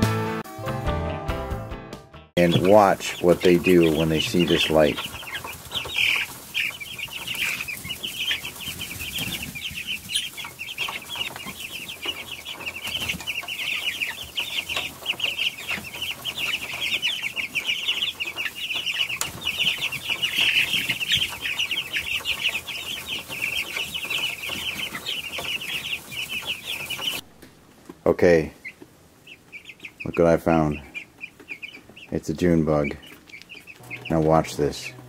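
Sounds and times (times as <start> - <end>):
chicks peeping: 2.4 - 35.0.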